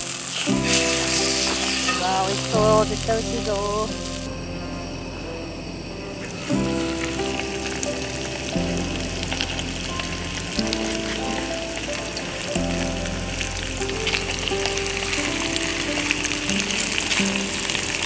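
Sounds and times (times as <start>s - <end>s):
food sizzling in a frying pan: 0.0s - 4.3s, 6.5s - 18.0s
background music: 0.0s - 18.0s.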